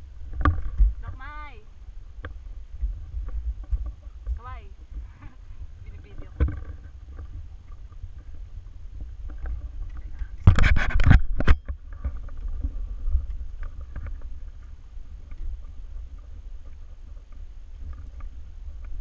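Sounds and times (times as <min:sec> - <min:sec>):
scraping rustle against camera: 0:02.2 - 0:18.4.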